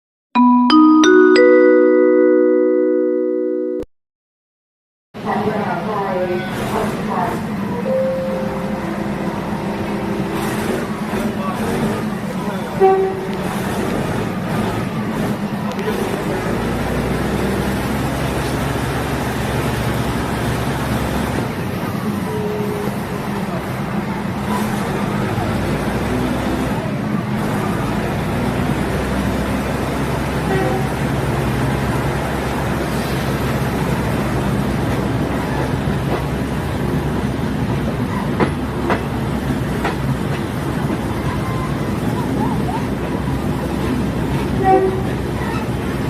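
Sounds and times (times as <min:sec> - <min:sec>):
railcar diesel engine droning: 0:05.2 - 0:46.0.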